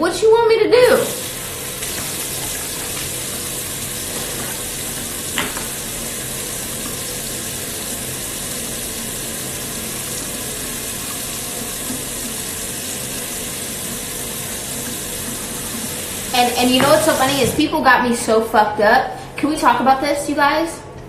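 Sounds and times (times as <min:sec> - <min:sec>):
water running from sink tap: 0:00.3 - 0:17.6.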